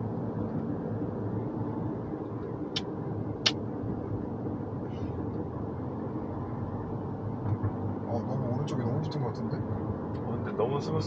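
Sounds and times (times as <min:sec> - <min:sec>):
road and tyre rumble in car: 0:00.0 - 0:11.0.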